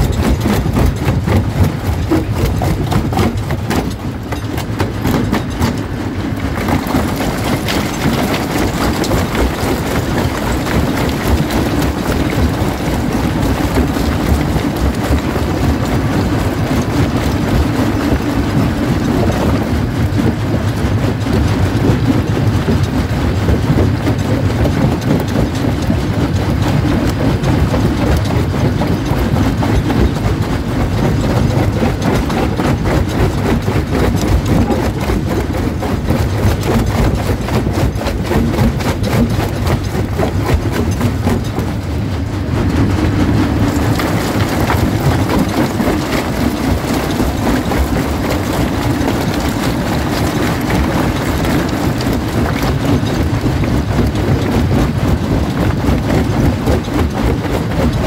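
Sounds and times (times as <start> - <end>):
low machine drone: 0.0 - 58.0.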